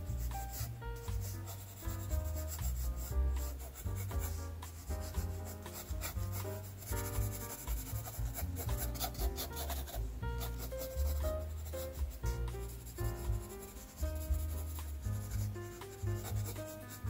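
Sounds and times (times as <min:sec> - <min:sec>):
background music with deep bass: 0:00.0 - 0:17.0
pencil scratching on paper: 0:00.0 - 0:17.0.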